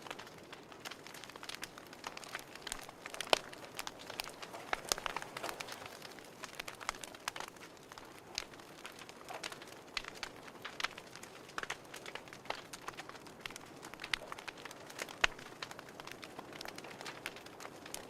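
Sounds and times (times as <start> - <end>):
fireplace crackling: 0.0 - 18.0
soft steady hiss: 0.0 - 18.0.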